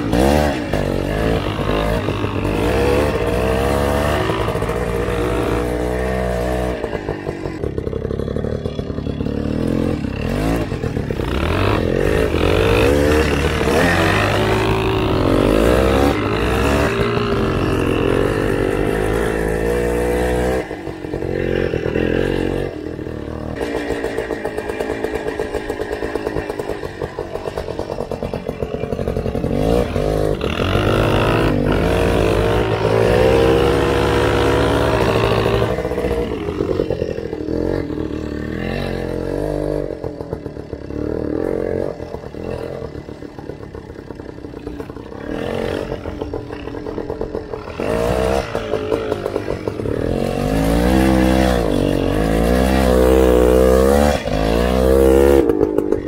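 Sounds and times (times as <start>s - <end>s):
off-road motorcycle engines revving: 0.0s - 56.0s.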